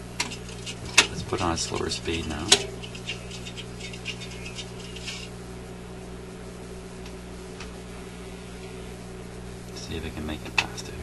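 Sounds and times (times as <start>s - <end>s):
record player hum: 0.0s - 11.0s.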